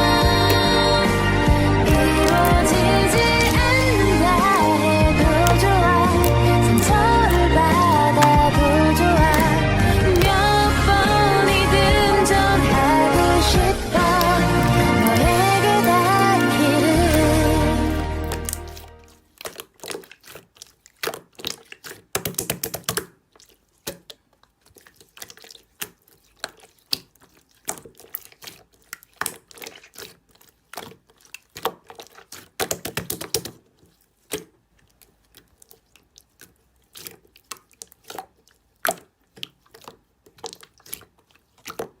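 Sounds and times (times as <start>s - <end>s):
slime squeezed by hand: 0.0s - 42.0s.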